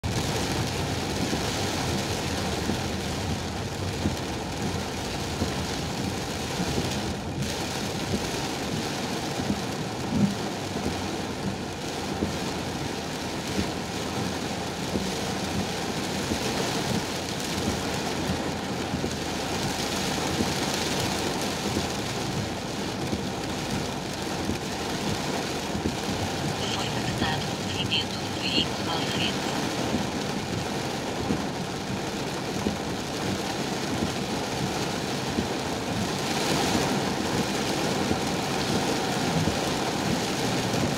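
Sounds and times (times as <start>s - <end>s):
heavy rain on car roof: 0.0s - 40.9s.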